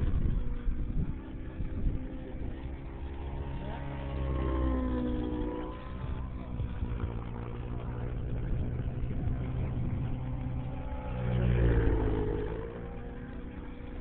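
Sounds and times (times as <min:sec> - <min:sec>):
model helicopter engine whine: 0:00.0 - 0:14.0.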